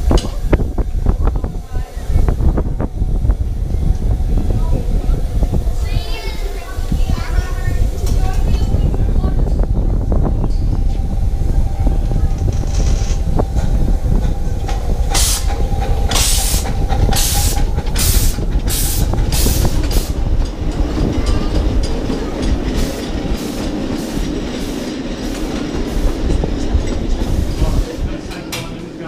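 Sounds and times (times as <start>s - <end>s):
steam locomotive exhaust chuffs: 0.0s - 29.0s
wheels rumbling on rails: 0.0s - 29.0s.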